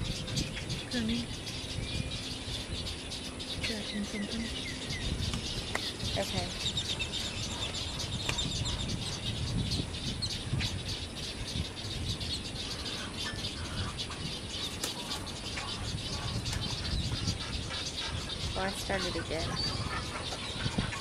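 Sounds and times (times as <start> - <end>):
birds chirping in colony: 0.0 - 21.0
steady low rumble: 0.0 - 21.0.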